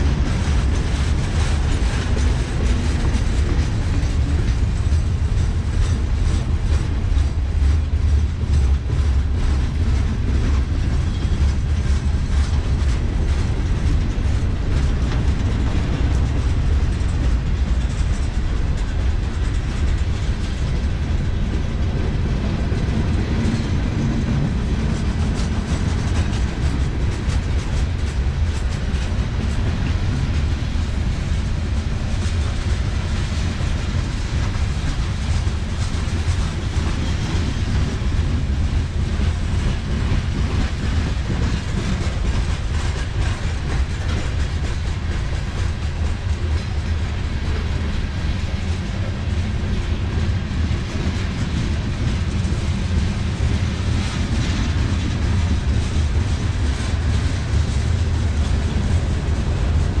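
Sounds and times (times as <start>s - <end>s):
steel wheels rumbling on rail: 0.0s - 60.0s
wheels clicking over rail joints: 0.0s - 60.0s.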